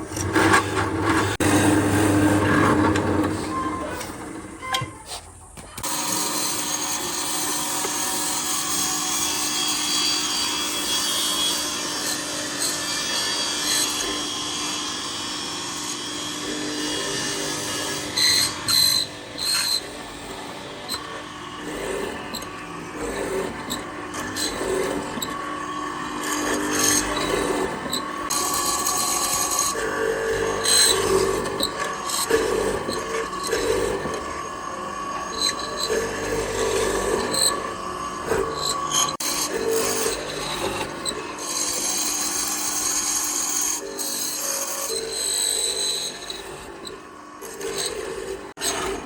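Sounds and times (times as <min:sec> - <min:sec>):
power tool working wood: 0:00.0 - 0:04.6, 0:05.8 - 0:49.0.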